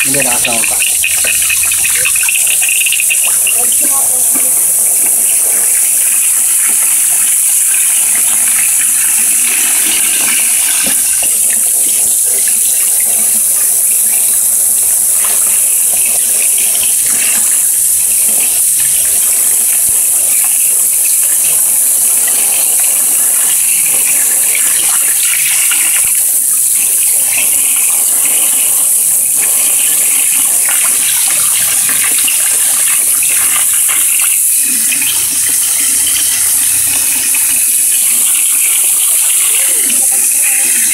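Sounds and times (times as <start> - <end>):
hose water jetting into bin: 0.0 - 40.9.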